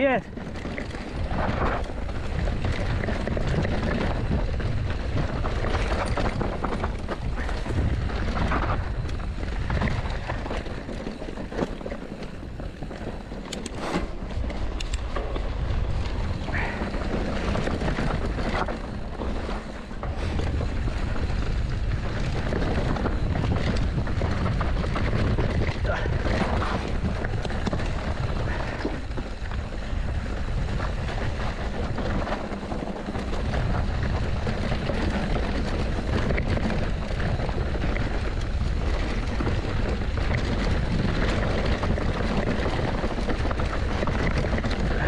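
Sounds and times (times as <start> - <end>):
bike knocking and rattling: 0.0 - 45.0
tyres rolling over dirt and stones: 0.0 - 45.0
wind on microphone: 0.0 - 45.0.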